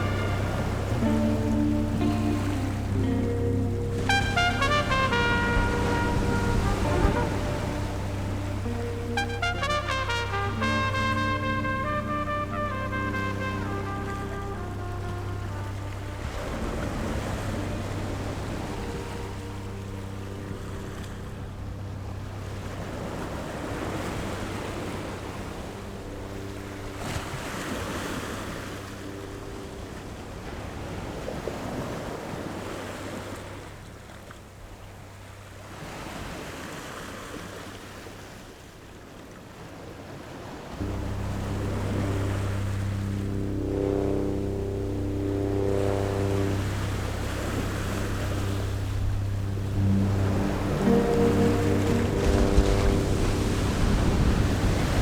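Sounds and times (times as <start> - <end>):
rushing surf-like noise: 0.0 - 33.2, 40.8 - 55.0
low steady musical drone: 0.0 - 36.0, 40.8 - 55.0.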